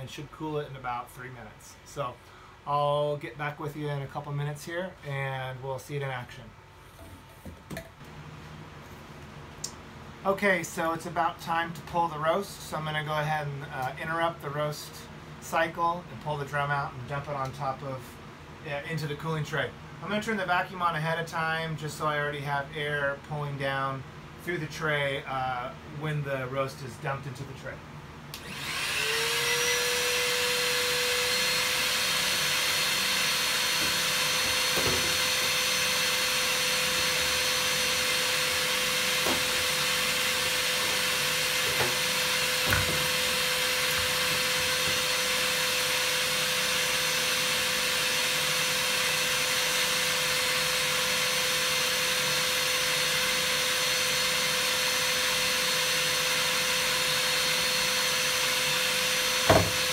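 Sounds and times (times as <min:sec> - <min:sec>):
shop vac whining: 0:00.0 - 0:24.0, 0:25.0 - 0:59.9.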